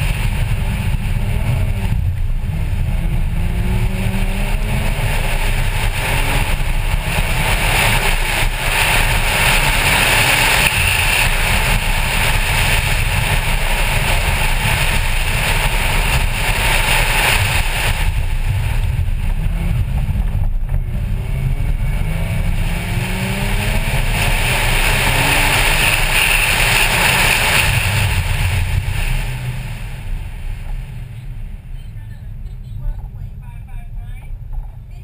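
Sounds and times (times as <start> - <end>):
wind rushing on microphone: 0.0 - 33.4
car engine running hard: 0.0 - 35.0.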